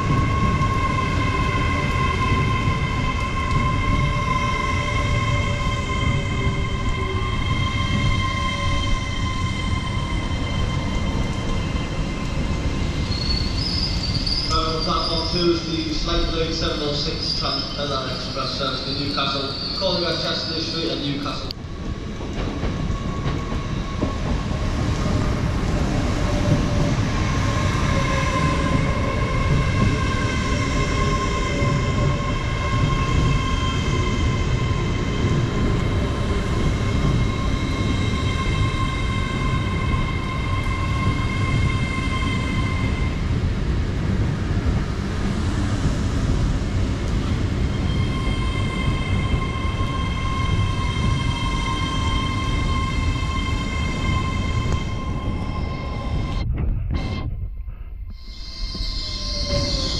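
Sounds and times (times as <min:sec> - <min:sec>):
train high whine: 0:00.0 - 0:59.9
train wheels rumbling on rails: 0:00.0 - 0:59.9.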